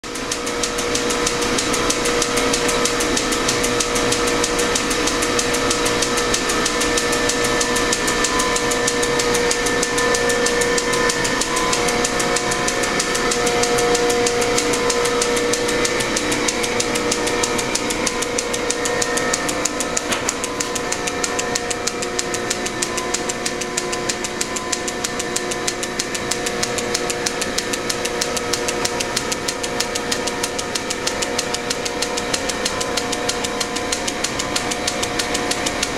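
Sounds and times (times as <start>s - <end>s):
lathe whining with fast ticking: 0.0s - 35.9s.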